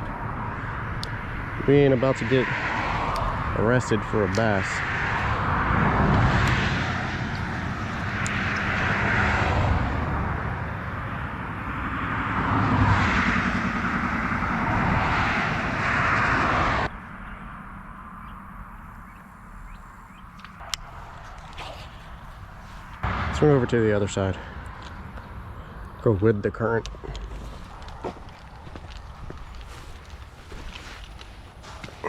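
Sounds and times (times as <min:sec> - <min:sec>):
vehicles passing on road: 0:00.0 - 0:32.0.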